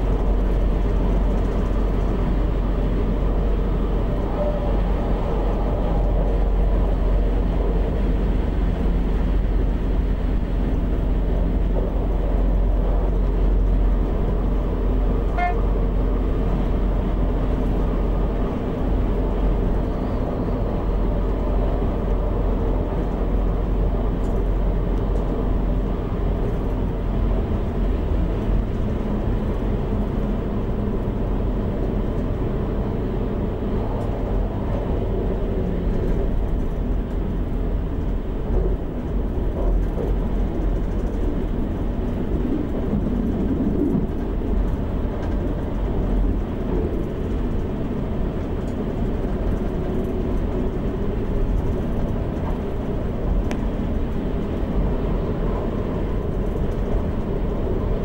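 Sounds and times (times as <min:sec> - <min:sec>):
diesel engine rumble: 0:00.0 - 0:58.0
train wheels on rails: 0:00.0 - 0:58.0.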